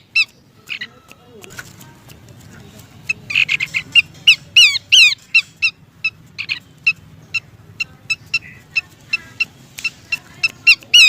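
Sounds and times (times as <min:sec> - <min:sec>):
bird chattering: 0:00.0 - 0:11.0.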